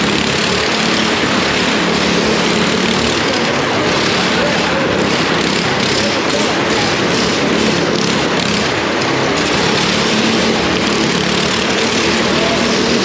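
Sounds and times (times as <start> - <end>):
loud rushing noise: 0.0 - 13.0
motorcycle engine running: 0.0 - 13.0.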